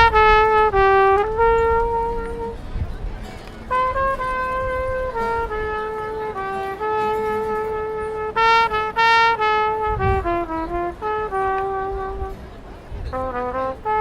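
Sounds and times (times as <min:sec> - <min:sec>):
trumpet playing slow melody: 0:00.0 - 0:14.0.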